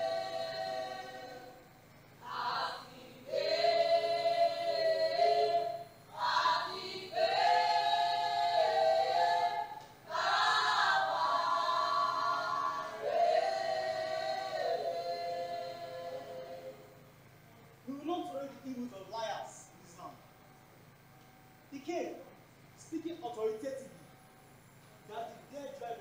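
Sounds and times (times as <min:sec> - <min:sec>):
voices singing unaccompanied: 0:00.0 - 0:26.0.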